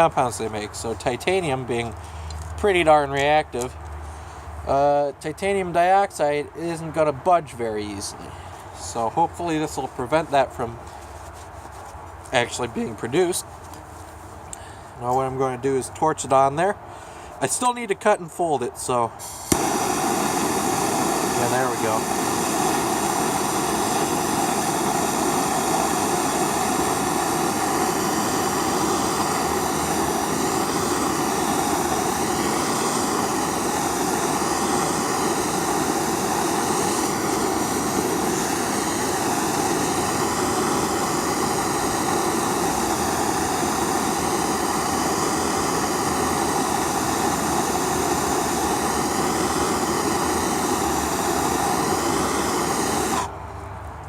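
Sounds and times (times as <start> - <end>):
gas torch flame burning: 0.0 - 11.0, 18.8 - 53.5.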